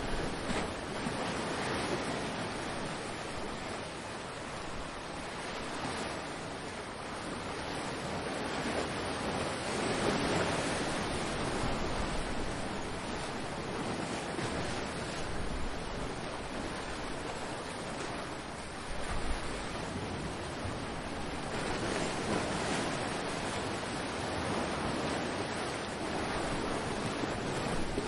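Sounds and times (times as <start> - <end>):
waves breaking on shore: 0.0 - 28.0.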